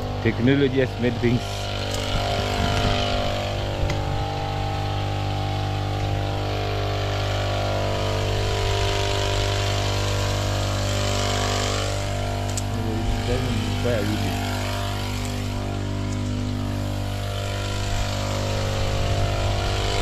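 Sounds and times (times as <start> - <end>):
small petrol engine running: 0.0 - 20.0.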